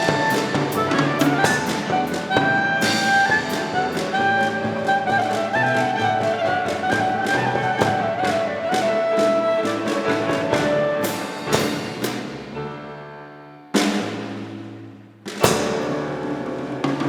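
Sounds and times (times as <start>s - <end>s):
steady drum beats: 0.0s - 12.9s, 13.8s - 17.0s
klezmer band playing: 0.0s - 14.0s, 15.4s - 17.0s.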